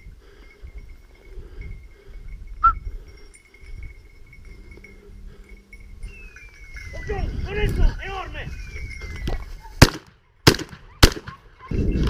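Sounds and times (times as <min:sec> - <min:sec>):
bell-like tinkling: 0:00.0 - 0:09.8.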